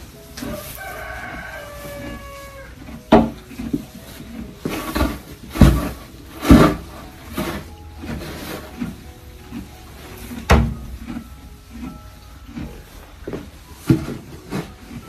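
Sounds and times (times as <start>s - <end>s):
pitchfork rustling straw: 0.0s - 15.0s.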